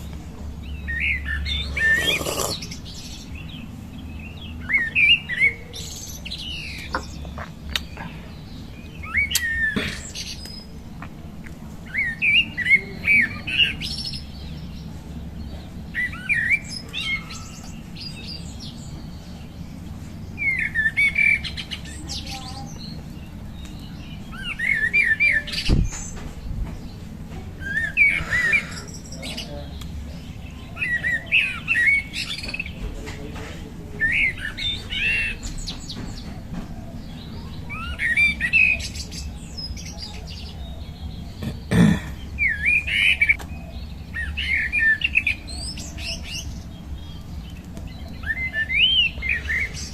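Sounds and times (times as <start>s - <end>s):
songbird warbling chirps: 0.0s - 32.9s, 33.8s - 49.9s.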